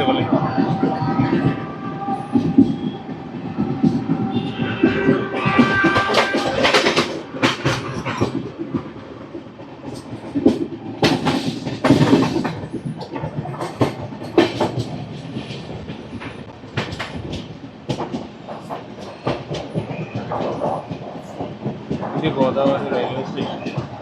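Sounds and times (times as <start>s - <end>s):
train rumble: 0.0s - 24.0s
train wheels clattering on rails: 0.0s - 24.0s.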